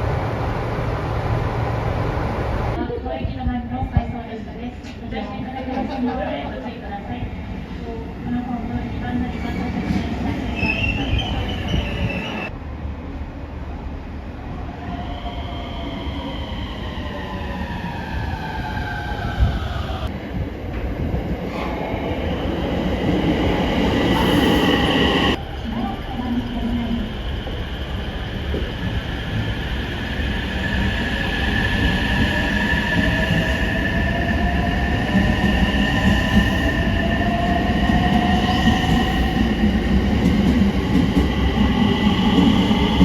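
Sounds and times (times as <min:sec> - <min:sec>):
electric train rumbling and whining: 0:00.0 - 0:02.8, 0:06.6 - 0:43.0.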